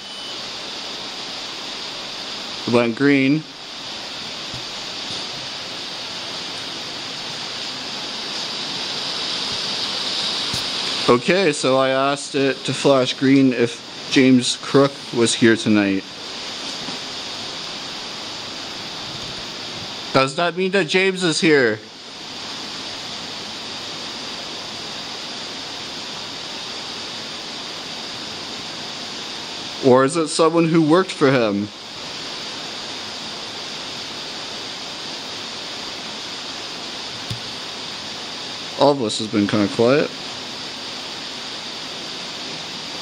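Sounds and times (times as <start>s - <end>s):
steady rushing hiss: 0.0s - 43.0s.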